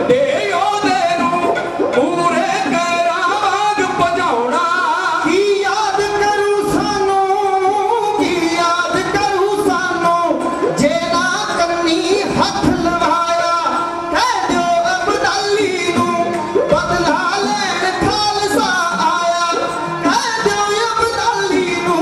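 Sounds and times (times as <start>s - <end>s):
bowed sarangi: 0.0s - 22.0s
hand drum beats: 0.0s - 22.0s
man singing: 0.0s - 22.0s.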